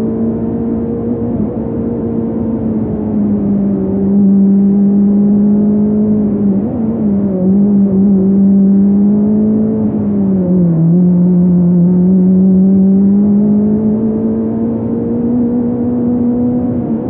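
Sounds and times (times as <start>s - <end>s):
race car engine pulling hard: 0.0s - 17.0s.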